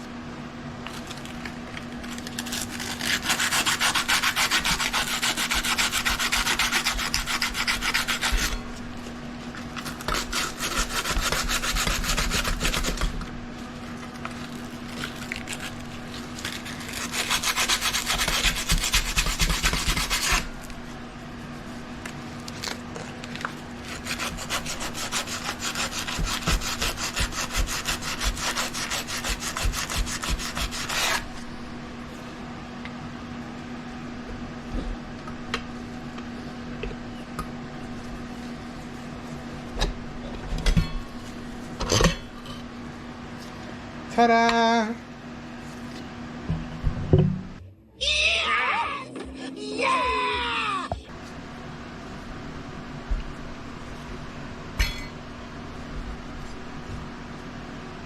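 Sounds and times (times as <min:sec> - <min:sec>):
steady low hum: 0:00.0 - 0:48.0, 0:48.8 - 0:58.0.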